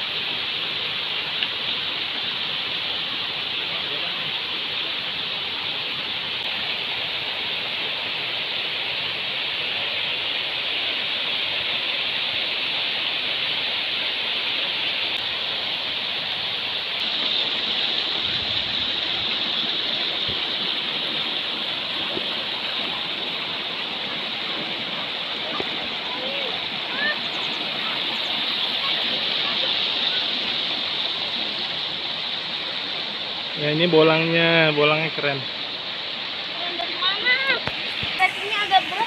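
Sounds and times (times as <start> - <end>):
river rushing over stones: 0.0 - 39.0.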